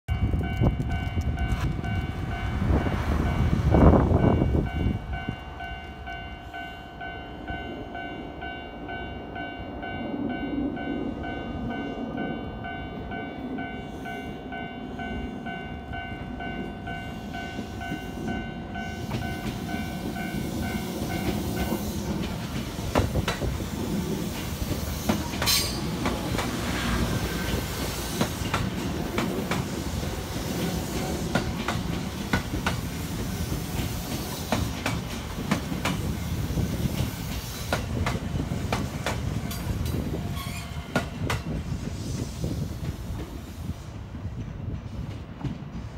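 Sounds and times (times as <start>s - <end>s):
electric train rolling past: 0.1s - 45.9s.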